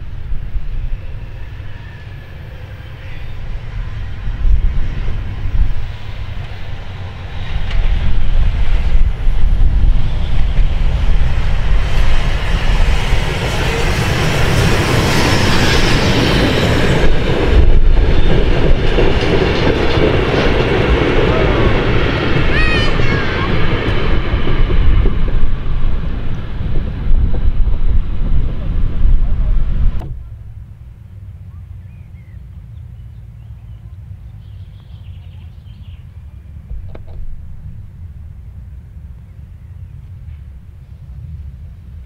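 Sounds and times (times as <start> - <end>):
steam locomotive running past: 0.0 - 42.0
train coaches on rails: 0.0 - 42.0.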